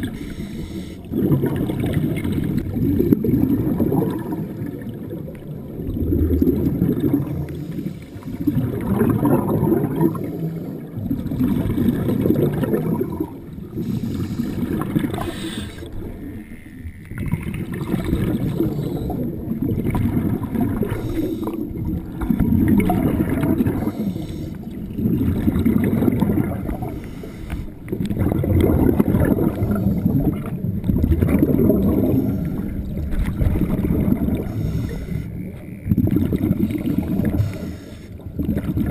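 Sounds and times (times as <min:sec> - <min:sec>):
underwater exhalation bubbles: 0:00.0 - 0:16.4, 0:17.0 - 0:38.9.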